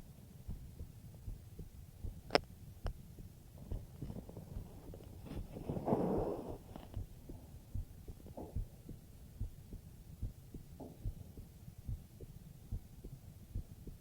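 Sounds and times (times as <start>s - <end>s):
heartbeat thumps: 0.0s - 14.0s.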